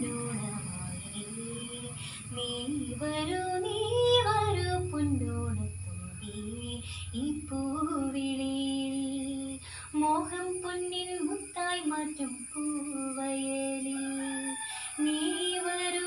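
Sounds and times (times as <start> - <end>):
girl singing: 0.0 - 16.0.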